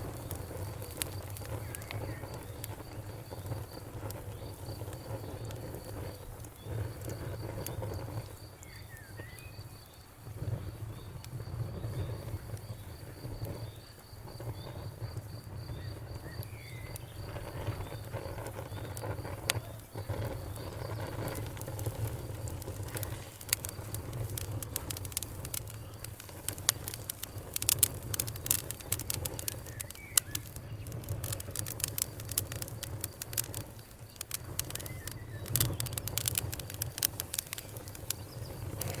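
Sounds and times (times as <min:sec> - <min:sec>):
campfire crackling and popping: 0:00.0 - 0:39.0
cricket chirping: 0:00.0 - 0:39.0.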